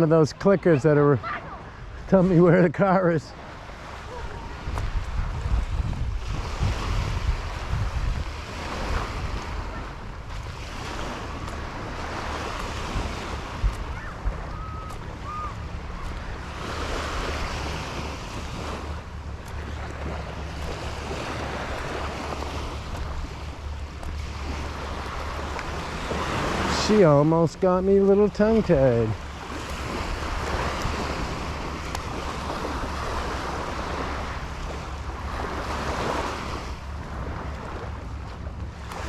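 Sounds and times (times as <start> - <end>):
surf breaking on shore: 0.0 - 39.0
wind rumble on microphone: 3.4 - 39.0.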